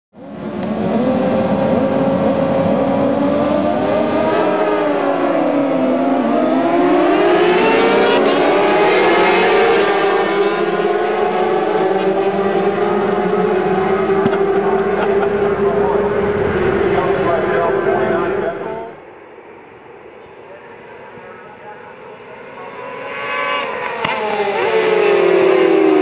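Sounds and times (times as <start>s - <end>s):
motorcycle engines revving: 0.2s - 26.0s.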